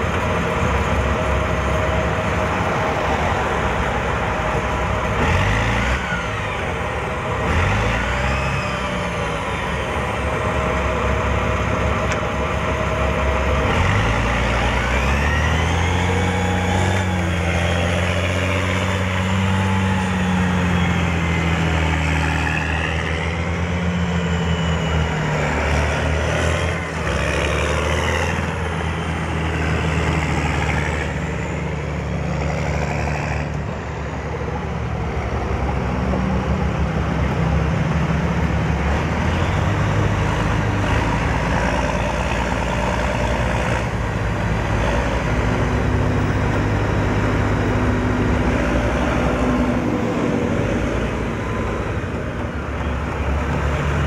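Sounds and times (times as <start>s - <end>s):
tracked vehicle engines: 0.0s - 54.0s.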